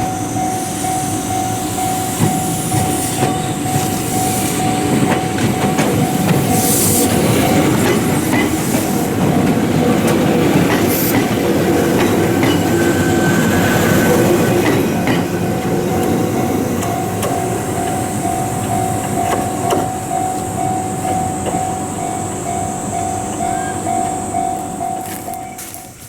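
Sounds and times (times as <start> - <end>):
train wheels clacking over rail joints: 1.7 - 26.0.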